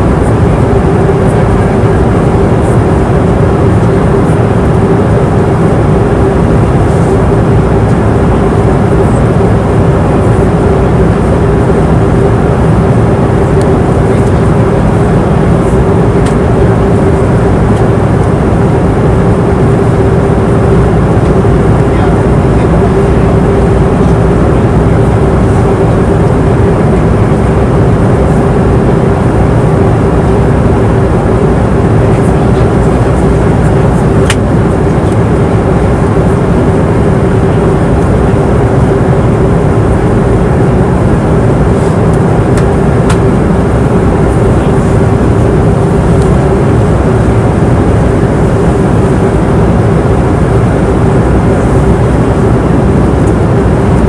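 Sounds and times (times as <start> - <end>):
airplane cabin engine rush: 0.0 - 54.0
constant hum: 0.0 - 54.0.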